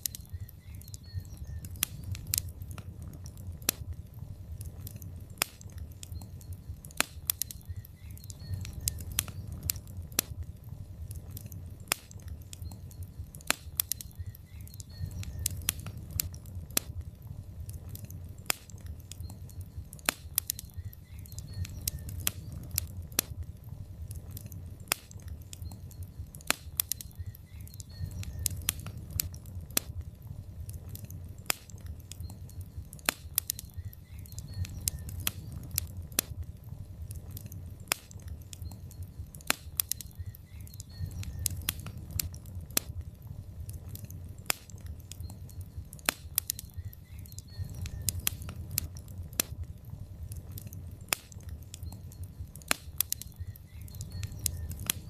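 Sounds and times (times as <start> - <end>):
logs crackling in fireplace: 0.0 - 55.0.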